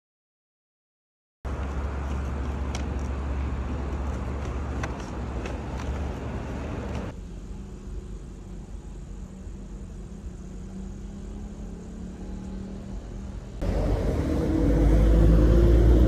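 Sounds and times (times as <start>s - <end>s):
car road and engine noise: 1.5s - 16.0s.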